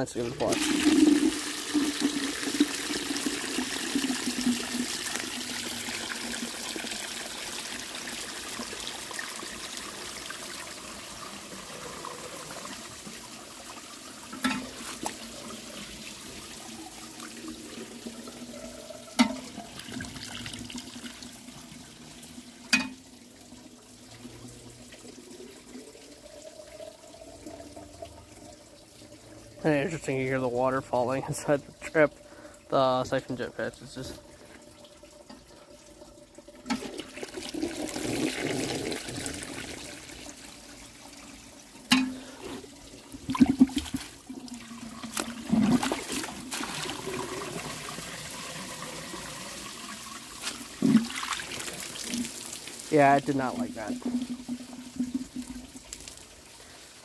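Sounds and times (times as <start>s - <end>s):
toilet flushing: 0.0s - 57.0s.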